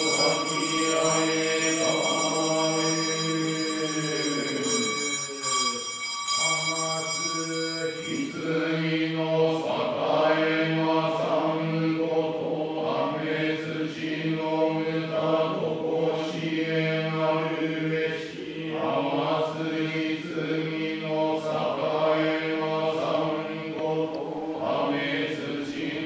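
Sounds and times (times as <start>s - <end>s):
prayer chanted in monotone: 0.0s - 26.0s.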